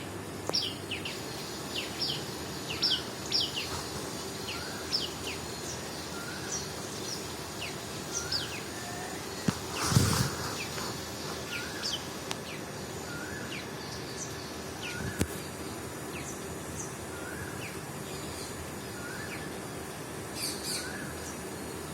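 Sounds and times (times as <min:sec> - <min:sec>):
outdoor hiss: 0:00.0 - 0:21.9.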